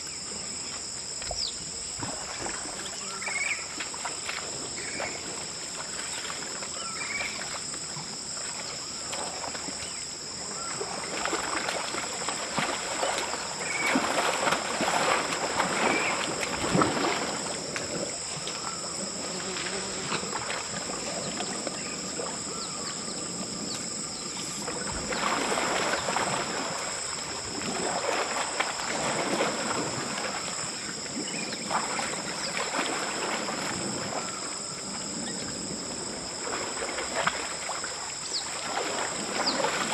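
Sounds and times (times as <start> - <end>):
insects buzzing: 0.0 - 39.9
water splashing and sloshing: 0.0 - 39.9.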